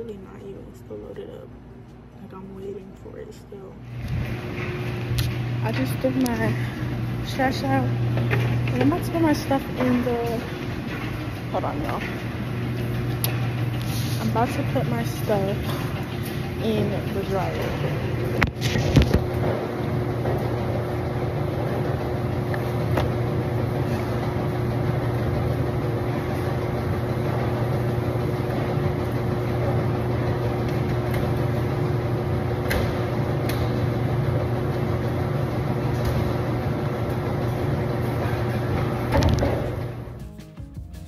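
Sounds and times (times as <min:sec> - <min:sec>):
clothes dryer humming: 0:00.0 - 0:41.0.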